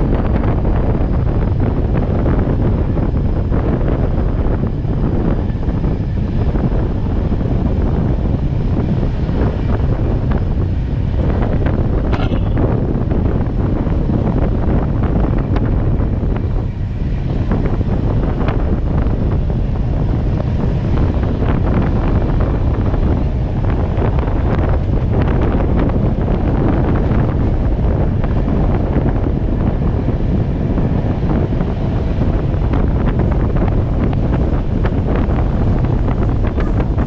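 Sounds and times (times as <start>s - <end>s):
train rumbling on track: 0.0s - 37.0s
wind buffeting the microphone: 0.0s - 37.0s.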